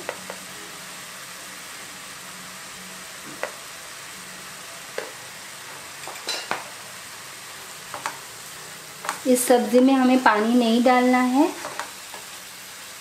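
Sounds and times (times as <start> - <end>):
leaves sizzling in oil: 0.0 - 13.0.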